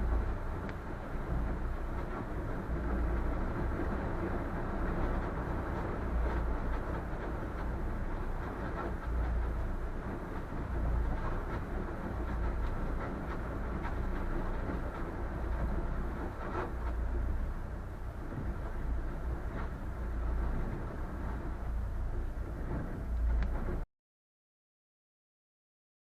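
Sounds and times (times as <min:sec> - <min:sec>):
boat engine low rumble: 0:00.0 - 0:23.9.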